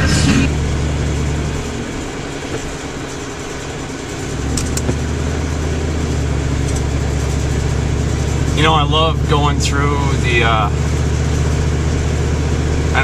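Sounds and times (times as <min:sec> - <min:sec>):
engine and tyre drone: 0:00.0 - 0:13.0.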